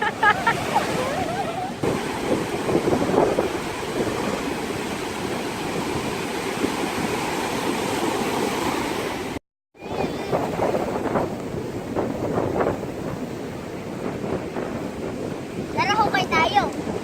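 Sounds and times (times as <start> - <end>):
ocean surf washing onto beach: 0.0 - 17.0
wind buffeting microphone: 0.0 - 17.0.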